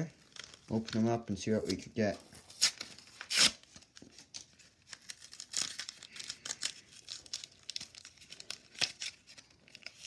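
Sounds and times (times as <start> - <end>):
paper wrapper tearing and crinkling: 0.0 - 10.0.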